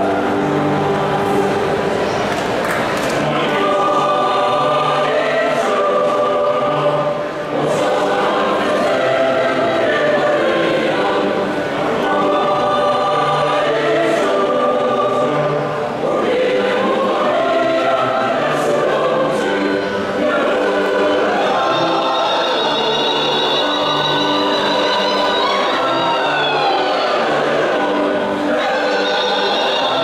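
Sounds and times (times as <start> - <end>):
mixed-voice choir singing: 0.0 - 30.0.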